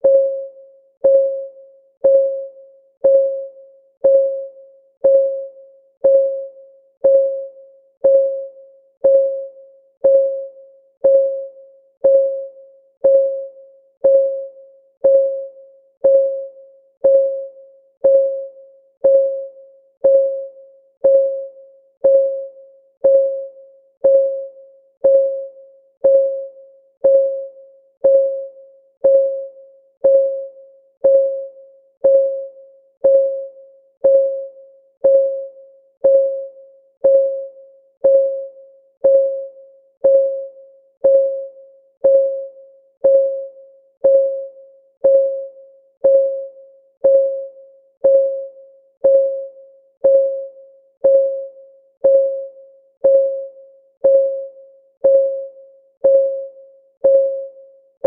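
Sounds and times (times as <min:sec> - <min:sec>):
timer ticking: 0:00.0 - 0:57.6.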